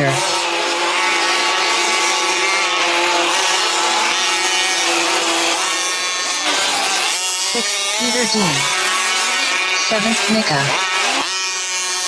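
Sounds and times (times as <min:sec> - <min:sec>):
small engines buzzing at high revs: 0:00.0 - 0:12.0.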